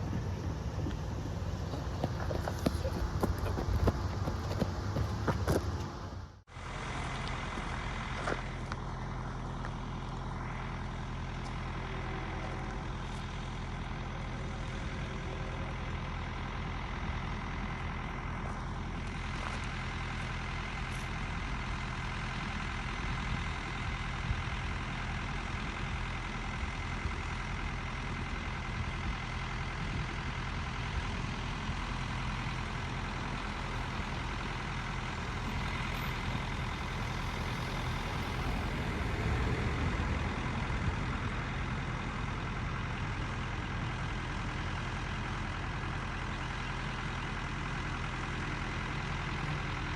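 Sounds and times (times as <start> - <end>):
heavy diesel engine droning: 0.0 - 49.9.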